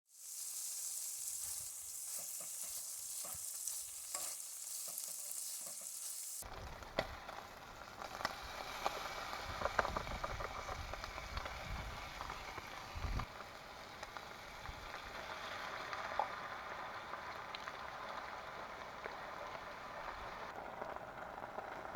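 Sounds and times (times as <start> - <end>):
hissing and crackling: 0.1 - 21.9.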